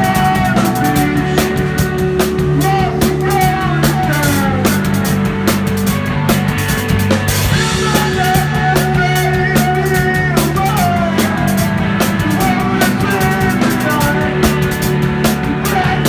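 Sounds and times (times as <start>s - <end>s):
drum kit cymbal and drum strokes: 0.0s - 16.0s
electric guitar: 0.0s - 16.0s
rock band playing live: 0.0s - 16.0s.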